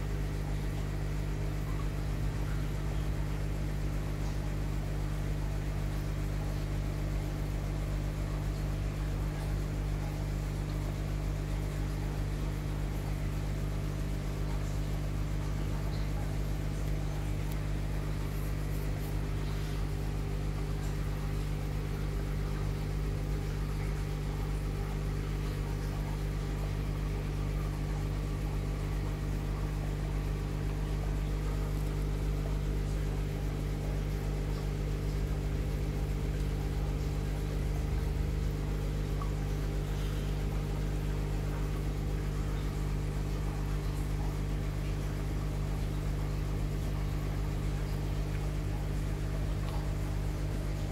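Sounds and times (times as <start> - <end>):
aquarium air pump humming: 0.0 - 50.9.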